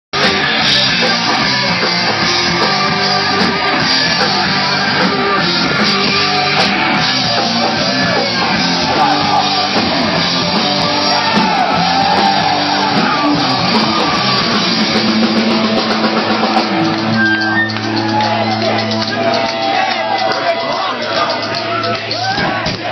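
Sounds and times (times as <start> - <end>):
distorted electric guitars: 0.2 - 22.9
drum kit: 0.2 - 22.9
shouted vocals: 0.4 - 22.9.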